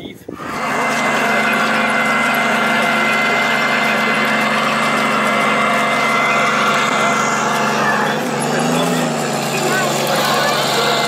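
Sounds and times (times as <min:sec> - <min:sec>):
engine idle through small loudspeaker: 0:00.0 - 0:11.0.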